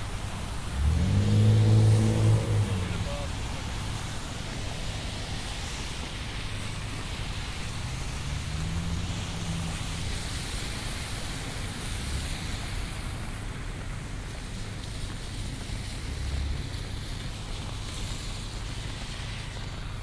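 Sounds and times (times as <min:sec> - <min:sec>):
rain hiss: 0:00.0 - 0:20.0
wet-road traffic: 0:00.0 - 0:20.0.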